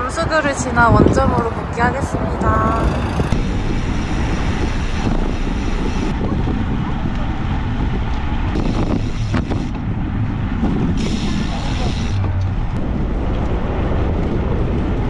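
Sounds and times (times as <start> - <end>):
wind rushing over microphone: 0.0 - 15.0
bicycle tires rolling on asphalt: 1.3 - 15.0.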